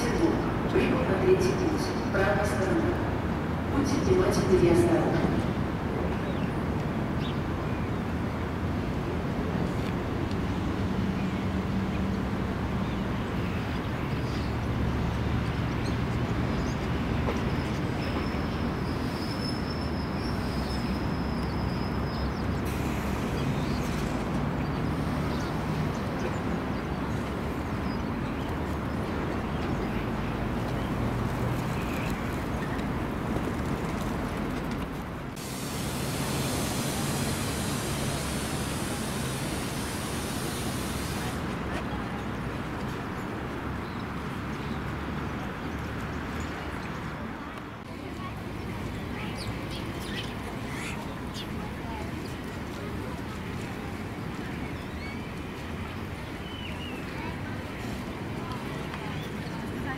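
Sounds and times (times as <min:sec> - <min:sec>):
low rumble and hum of trains: 0:00.0 - 0:45.5, 0:46.1 - 0:59.9.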